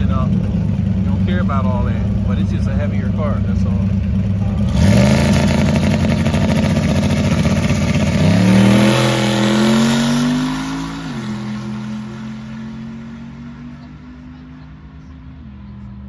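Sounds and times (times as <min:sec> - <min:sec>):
car engine accelerating at full throttle: 0:00.0 - 0:16.0.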